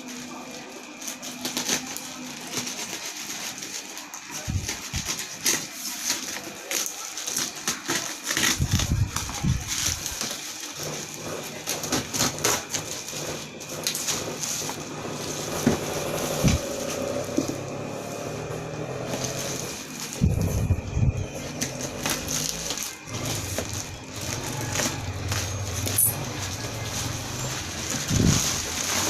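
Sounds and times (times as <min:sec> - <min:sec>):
packaging crinkling and rustling: 0:00.0 - 0:29.0.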